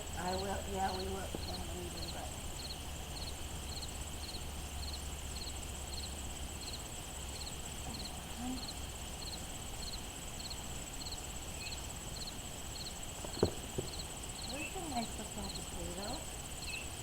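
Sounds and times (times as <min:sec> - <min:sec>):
crickets chirping: 0:00.0 - 0:17.0
high insect hum: 0:00.0 - 0:17.0.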